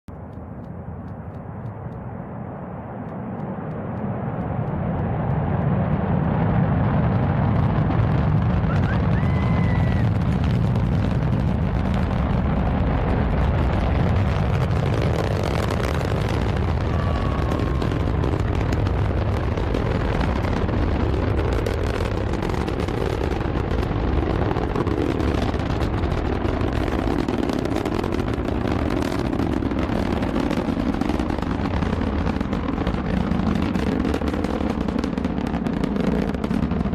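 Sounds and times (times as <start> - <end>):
rocket engines rumbling with crackling: 0.1 - 36.9.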